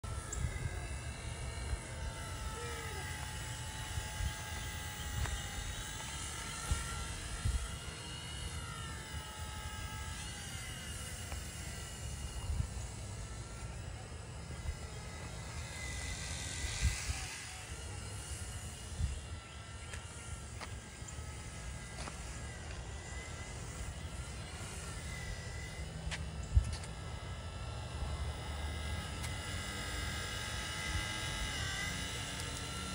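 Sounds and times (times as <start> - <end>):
model helicopter motor whine: 0.0 - 32.9.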